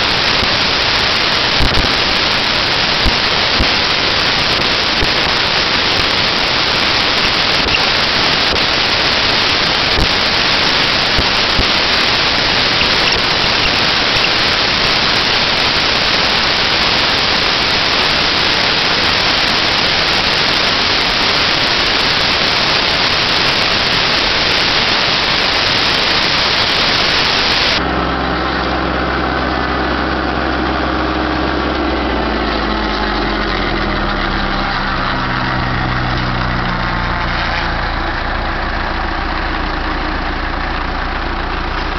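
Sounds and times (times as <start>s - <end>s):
forage harvester roaring: 0.0s - 41.9s
tractor engine running: 0.0s - 41.9s.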